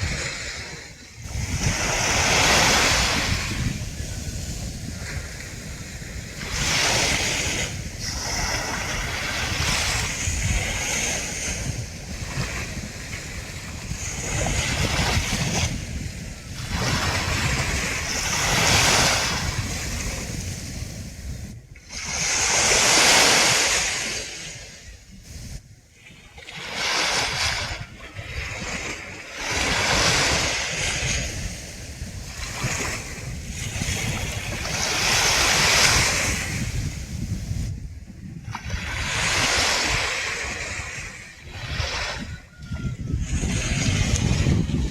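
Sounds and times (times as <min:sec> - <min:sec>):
waves breaking on beach: 0:00.0 - 0:44.9
wind buffeting on microphone: 0:00.0 - 0:44.9.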